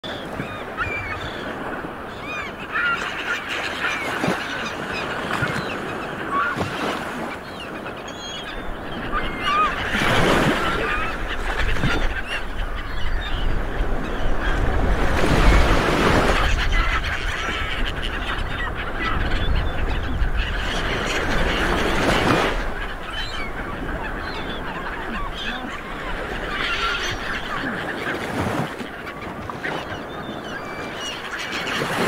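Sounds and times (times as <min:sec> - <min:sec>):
bird calls: 0:00.0 - 0:32.0
sea waves breaking: 0:00.0 - 0:32.0.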